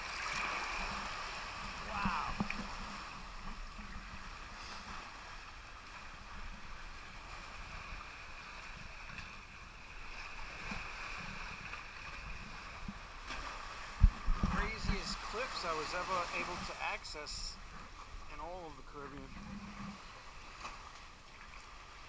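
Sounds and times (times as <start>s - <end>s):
sea water sloshing and lapping: 0.0s - 22.0s.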